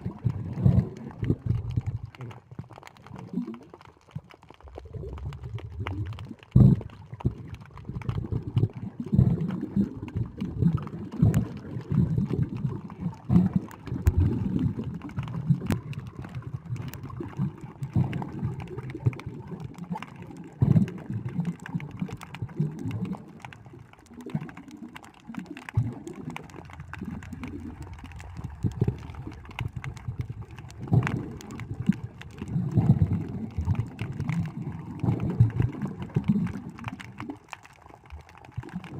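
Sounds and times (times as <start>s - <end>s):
water sloshing underwater: 0.0s - 38.9s.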